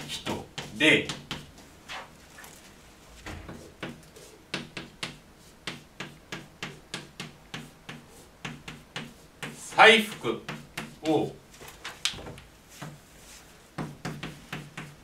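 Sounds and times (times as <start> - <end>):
chalk scratching on blackboard: 0.0 - 2.1, 3.5 - 11.3, 12.7 - 15.0.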